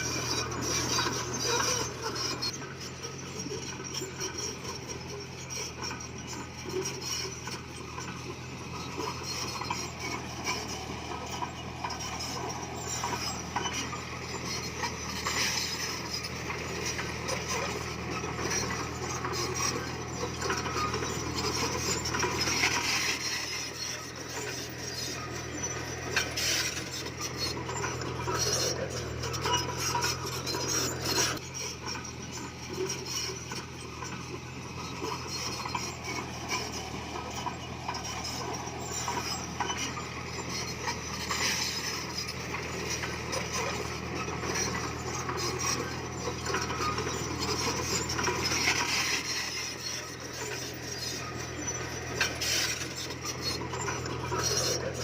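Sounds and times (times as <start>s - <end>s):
bulldozer diesel engine running: 0.0s - 55.0s
steel tracks clattering: 0.0s - 55.0s
stone scraping and grinding: 0.0s - 55.0s.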